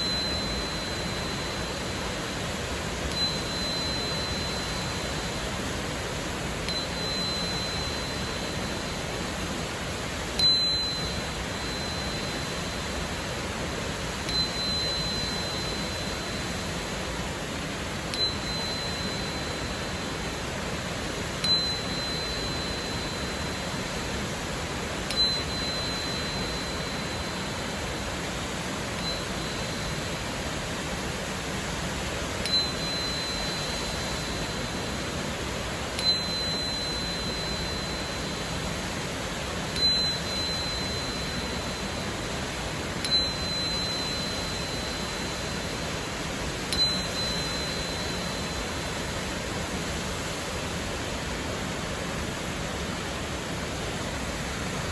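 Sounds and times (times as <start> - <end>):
tuning fork ringing high tone: 0.0 - 54.9.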